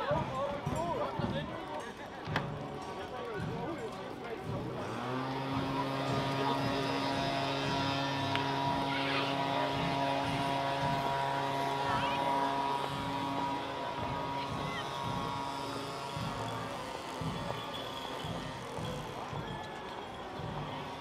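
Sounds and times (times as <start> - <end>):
voices: 0.0 - 21.0
steady engine drone: 3.4 - 21.0.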